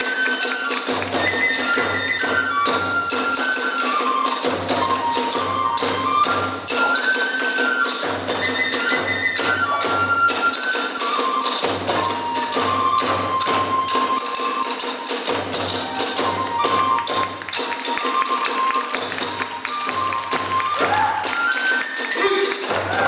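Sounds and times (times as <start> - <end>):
bamboo flute melody: 0.0 - 23.0
fast drum beats: 0.0 - 23.0.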